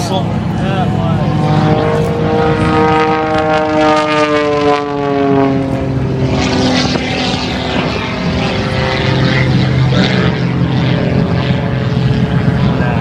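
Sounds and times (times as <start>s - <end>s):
propeller airplane flying past: 0.0s - 13.0s.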